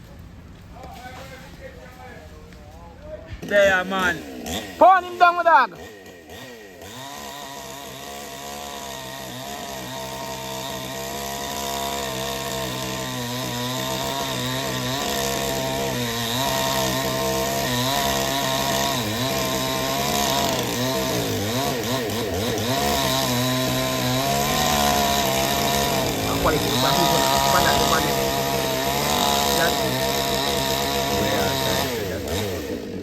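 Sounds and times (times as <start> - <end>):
chainsaw cutting wood: 3.1 - 33.0.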